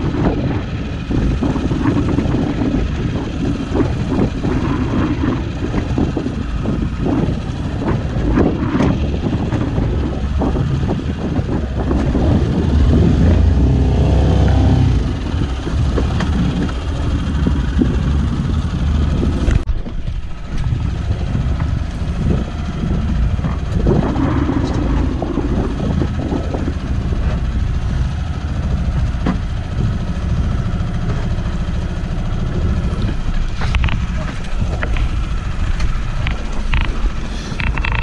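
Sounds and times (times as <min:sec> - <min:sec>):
outboard motor running: 0:00.0 - 0:38.0
wind buffeting microphone: 0:00.0 - 0:38.0.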